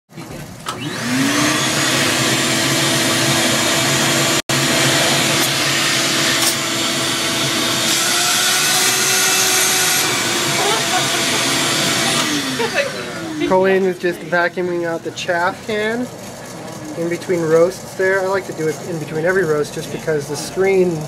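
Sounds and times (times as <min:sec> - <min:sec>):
vacuum cleaner motor whining: 0:00.2 - 0:21.0.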